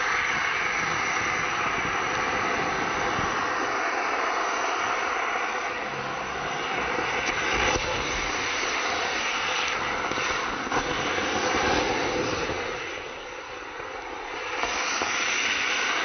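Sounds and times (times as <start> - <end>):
firework rockets hissing: 0.0 - 16.0.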